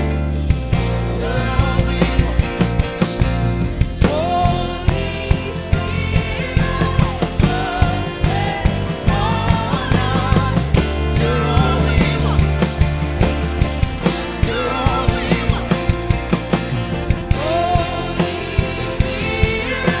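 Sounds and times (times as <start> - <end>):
rock band playing: 0.0 - 20.0
person singing: 0.7 - 20.0.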